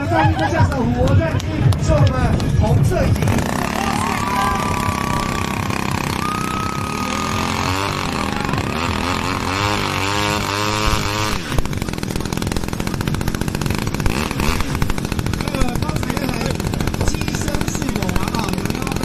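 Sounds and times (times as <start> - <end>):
model aircraft engine buzzing: 3.1 - 19.0.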